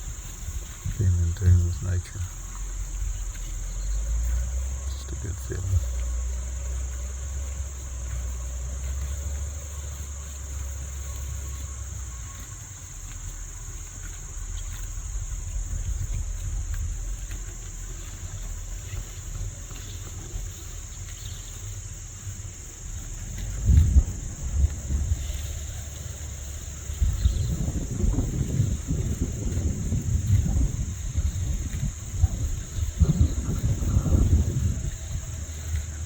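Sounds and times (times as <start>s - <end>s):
high-pitched insect chorus: 0.0s - 36.0s
wind buffeting microphone: 0.0s - 36.0s.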